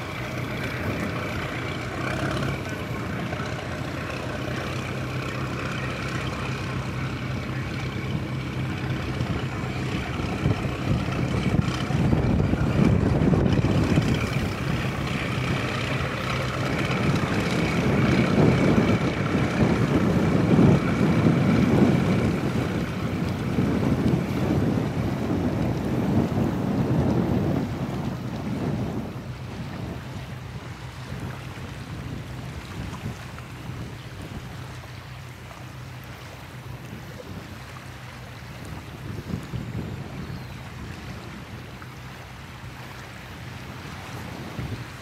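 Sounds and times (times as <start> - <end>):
engine humming: 0.0 - 45.0
wind buffeting microphone: 0.0 - 45.0.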